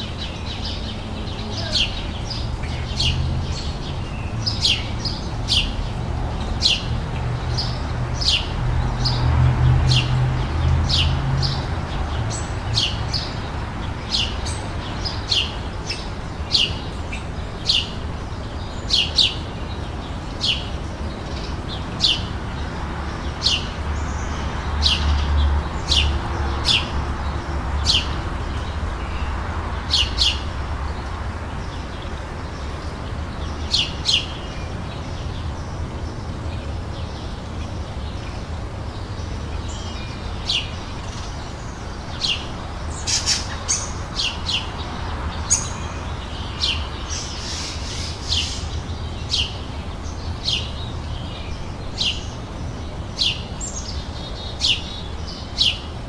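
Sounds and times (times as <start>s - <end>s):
songbird chirping: 0.0s - 56.0s.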